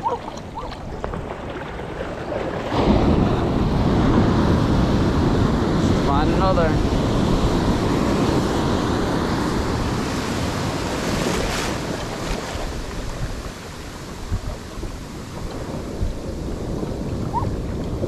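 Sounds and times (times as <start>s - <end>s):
ocean surf breaking on beach: 0.0s - 18.0s
wind buffeting microphone: 0.0s - 18.0s.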